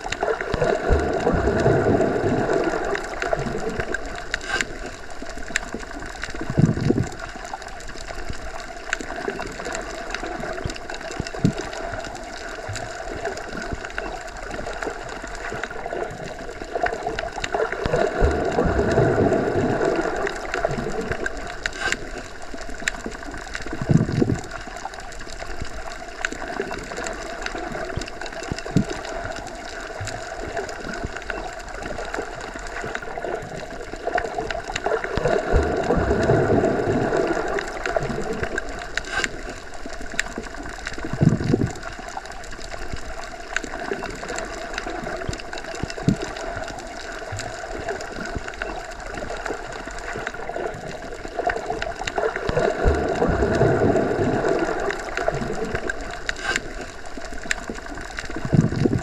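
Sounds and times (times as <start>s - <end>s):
bubbly gurgles: 0.0s - 59.0s
underwater rushing wash: 0.0s - 59.0s.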